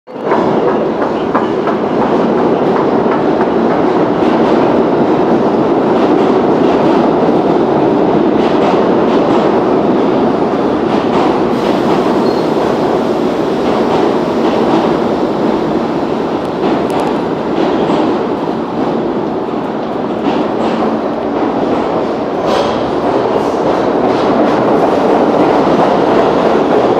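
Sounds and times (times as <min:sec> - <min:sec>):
subway train wheels rumbling: 0:00.1 - 0:26.9.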